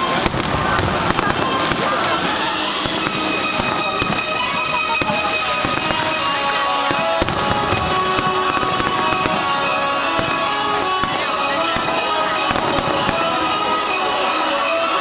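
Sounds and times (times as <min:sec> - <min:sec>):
fireworks cracking and popping: 0:00.0 - 0:15.0
music with sustained notes: 0:00.0 - 0:15.0.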